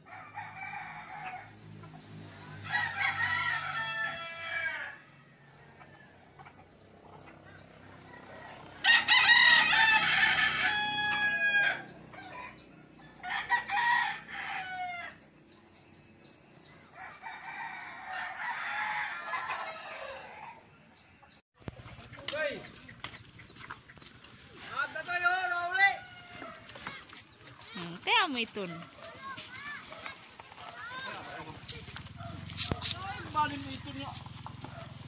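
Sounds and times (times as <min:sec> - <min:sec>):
roosters crowing: 0:00.0 - 0:35.0.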